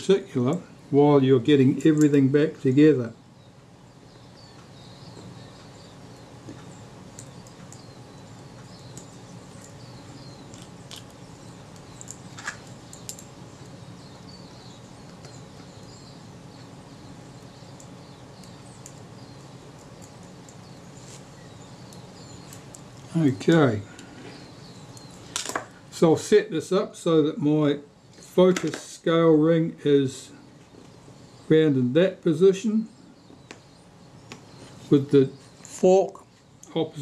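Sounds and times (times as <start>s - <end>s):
faint birdsong chirping: 0.0s - 37.0s
low room hum: 0.0s - 37.0s.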